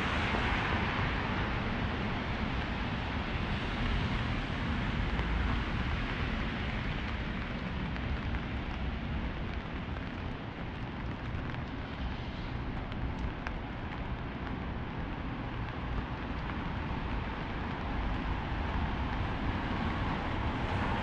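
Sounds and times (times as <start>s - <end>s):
rain hissing on wet street: 0.0s - 21.0s.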